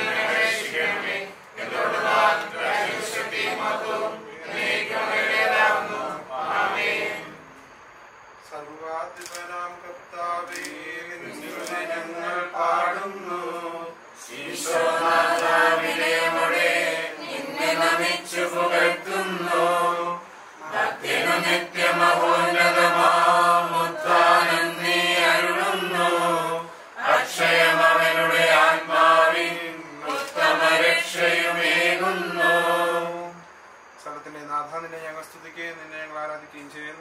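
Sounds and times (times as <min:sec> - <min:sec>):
chant-like singing: 0:00.0 - 0:07.6, 0:10.2 - 0:33.5.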